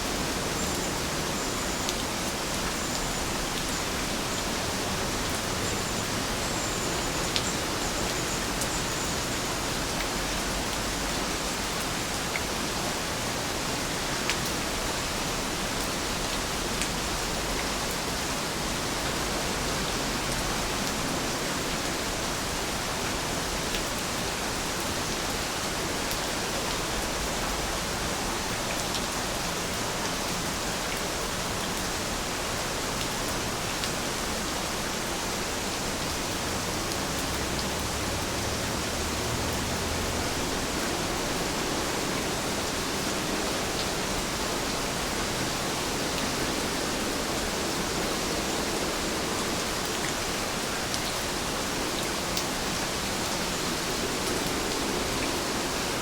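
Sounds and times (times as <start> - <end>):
dense rain hissing: 0.0 - 56.0.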